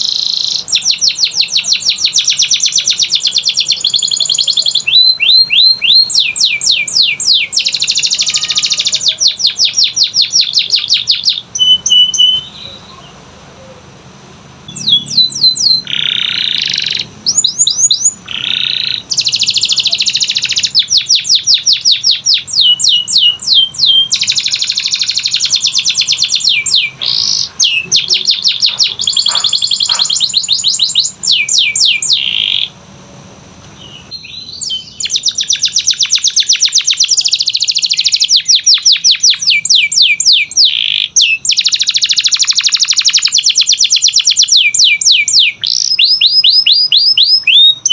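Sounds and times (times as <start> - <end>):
canary singing trills: 0.0 - 14.0, 14.6 - 32.8, 33.6 - 47.9.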